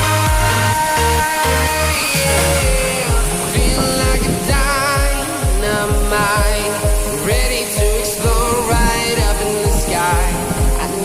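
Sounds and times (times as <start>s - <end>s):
kick drum beat: 0.0s - 1.0s, 2.6s - 11.0s
person singing: 0.0s - 11.0s
pop electronic music: 0.0s - 11.0s.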